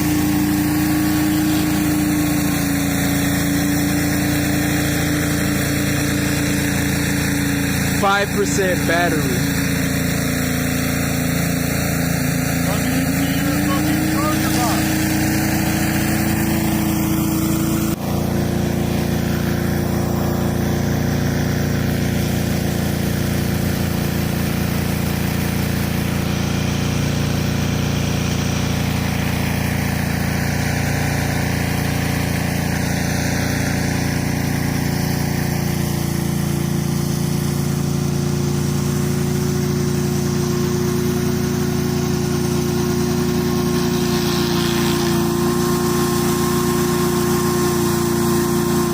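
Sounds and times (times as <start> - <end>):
pressure washer engine running: 0.0 - 48.9
water spray hissing on concrete: 0.0 - 48.9.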